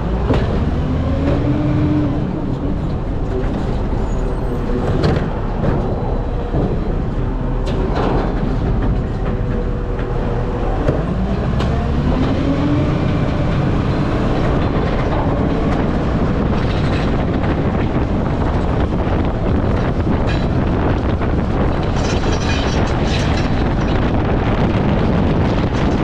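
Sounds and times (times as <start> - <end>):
garbage truck engine rumbling: 0.0 - 26.0.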